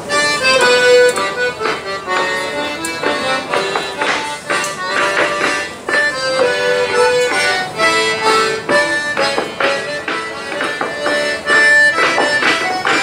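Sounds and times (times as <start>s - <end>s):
accordion folk dance tune: 0.0s - 13.0s.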